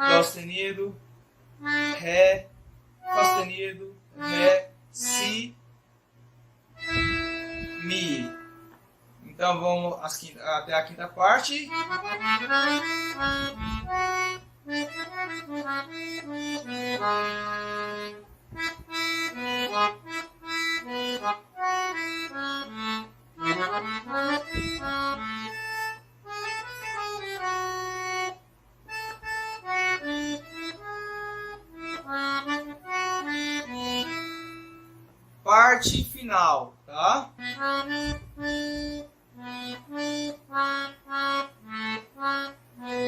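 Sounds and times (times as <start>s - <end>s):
accordion playing slow melody: 0.0s - 0.6s, 1.5s - 5.5s, 6.8s - 8.8s, 11.7s - 36.0s, 37.3s - 43.0s.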